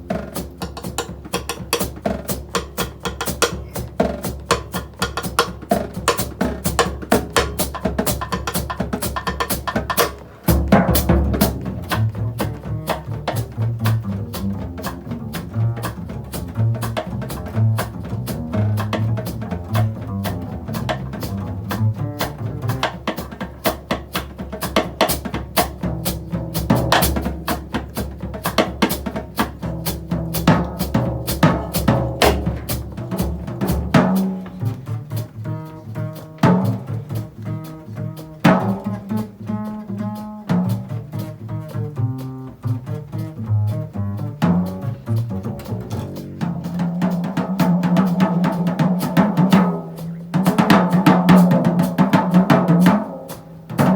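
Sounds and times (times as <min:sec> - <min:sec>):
plucked upright bass: 0:00.0 - 0:53.9.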